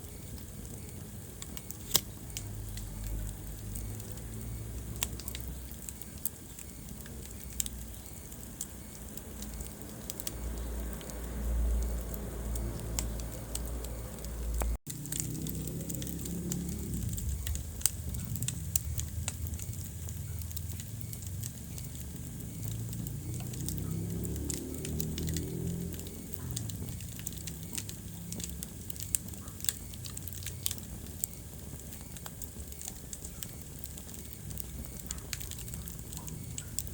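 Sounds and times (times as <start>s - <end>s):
fire crackling and popping: 0.0s - 36.9s
low rumble of flames: 0.0s - 36.9s.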